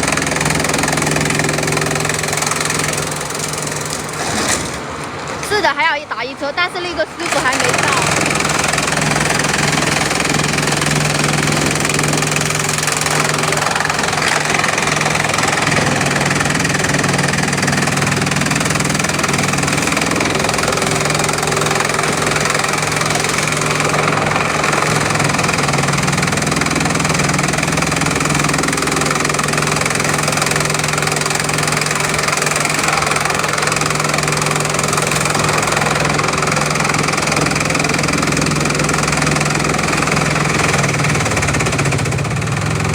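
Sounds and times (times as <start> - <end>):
crushing machine droning: 0.0 - 42.9.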